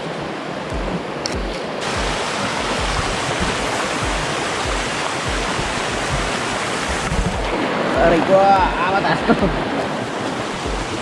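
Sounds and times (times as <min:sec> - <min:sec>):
flowing water rushing: 0:00.0 - 0:11.0
music with low beat: 0:00.7 - 0:11.0.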